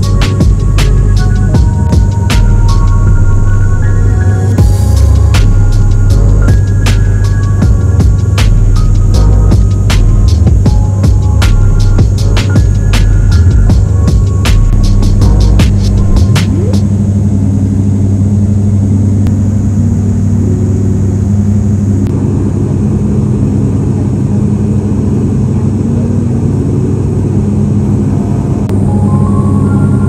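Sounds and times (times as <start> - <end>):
turboprop engines droning: 0.0 - 30.0.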